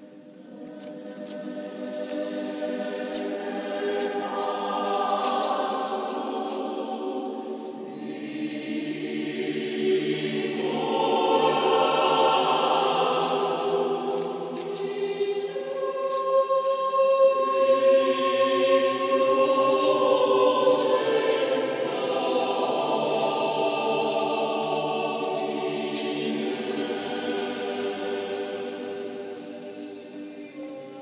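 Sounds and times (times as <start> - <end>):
choir singing sustained chords: 0.0 - 31.0.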